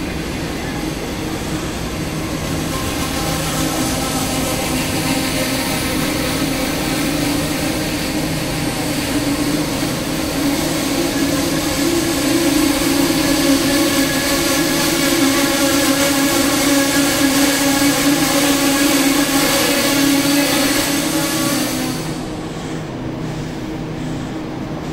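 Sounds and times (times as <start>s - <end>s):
locomotive tonal hum: 0.0s - 24.9s
train rumble: 0.0s - 24.9s.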